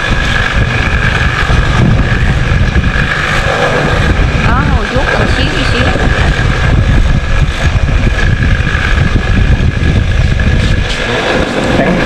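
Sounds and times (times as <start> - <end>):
grinding wheel motor drone: 0.0 - 12.0.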